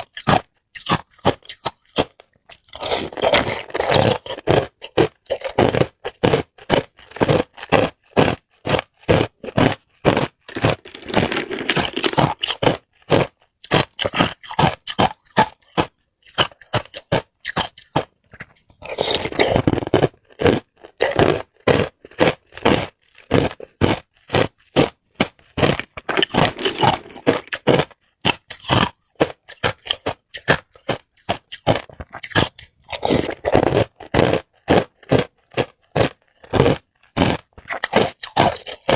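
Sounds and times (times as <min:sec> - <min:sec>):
ice cubes crunched by teeth: 0:00.0 - 0:38.9.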